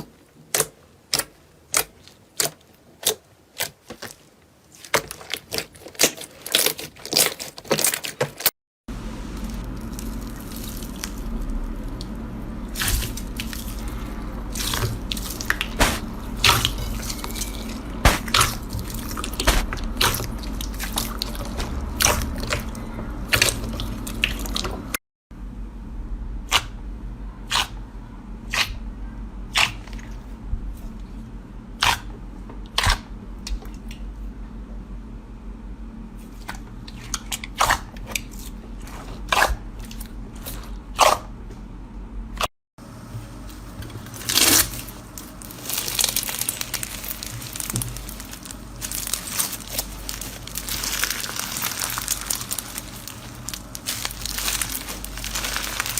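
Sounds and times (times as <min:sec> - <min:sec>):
steady low hum: 0:08.9 - 0:55.9.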